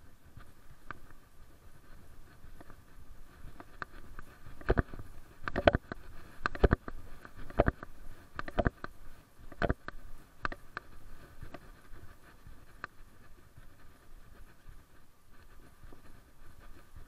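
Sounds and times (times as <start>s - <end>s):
footsteps on pavement: 0.0s - 17.0s.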